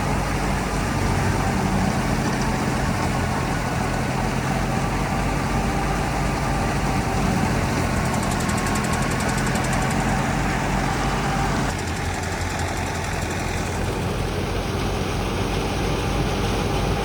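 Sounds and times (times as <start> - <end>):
harvester engine running: 0.0 - 17.0.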